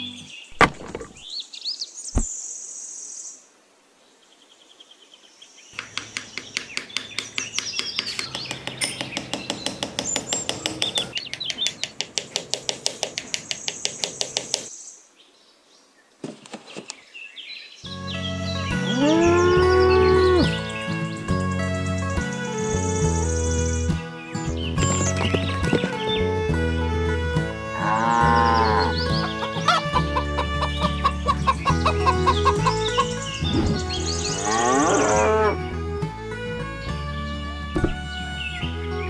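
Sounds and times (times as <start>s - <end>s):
small birds chirping: 5.4s - 16.1s, 16.7s - 35.4s, 36.3s - 38.8s.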